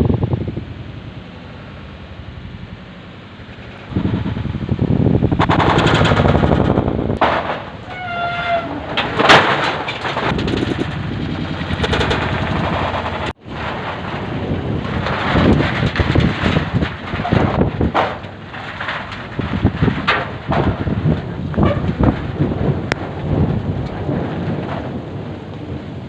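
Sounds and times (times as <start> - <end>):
hail pelting down: 3.6 - 26.0.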